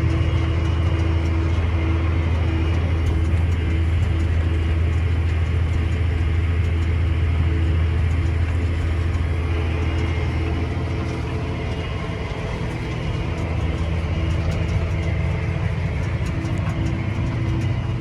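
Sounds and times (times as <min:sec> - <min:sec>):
faint steady whine: 0:00.0 - 0:18.0
tractor diesel engine rumble: 0:00.0 - 0:18.0.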